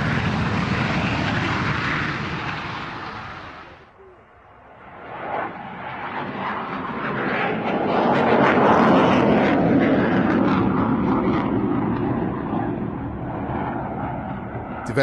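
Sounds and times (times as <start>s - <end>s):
fighter jet roaring past: 0.0s - 15.0s.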